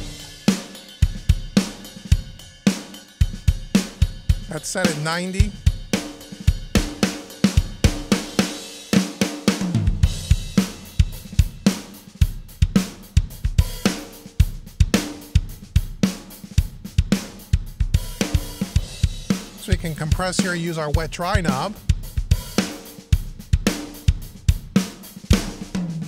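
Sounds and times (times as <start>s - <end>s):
drum kit playing a groove: 0.0s - 26.0s.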